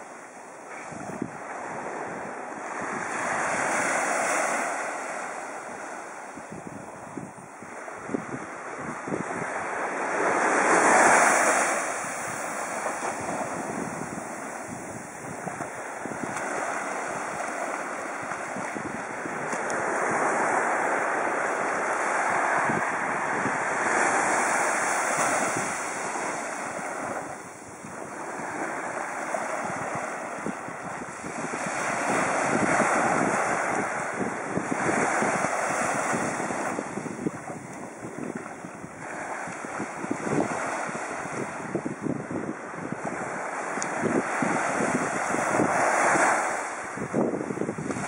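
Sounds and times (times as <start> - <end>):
surf waves breaking on beach: 0.0 - 48.0
wind on microphone: 0.0 - 48.0.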